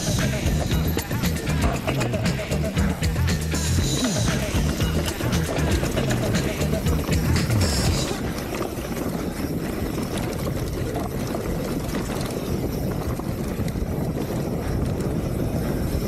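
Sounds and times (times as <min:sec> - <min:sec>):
bike tyres rolling on dirt: 0:00.0 - 0:16.0
wind buffeting microphone: 0:00.0 - 0:16.0.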